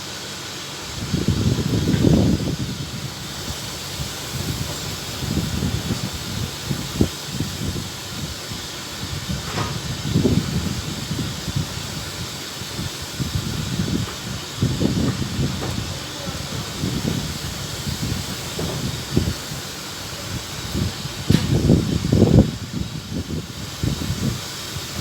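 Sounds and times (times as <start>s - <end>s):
steady hiss: 0.0s - 25.0s
wind buffeting microphone: 0.8s - 25.0s.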